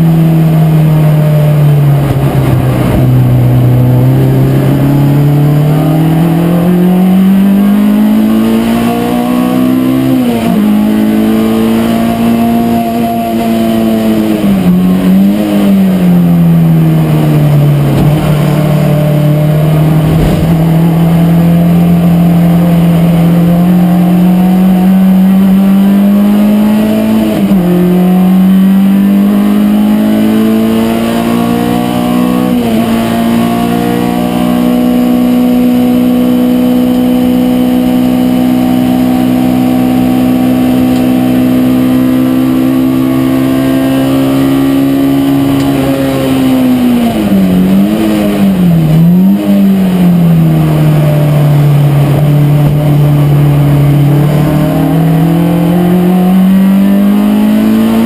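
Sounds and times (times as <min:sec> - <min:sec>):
race car engine: 0:00.0 - 0:58.0.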